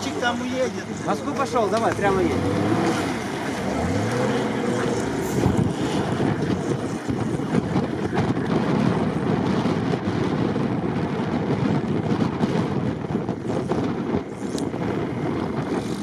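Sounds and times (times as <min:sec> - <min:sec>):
suv engine working hard: 0:00.0 - 0:16.0
wind noise on microphone: 0:00.0 - 0:16.0.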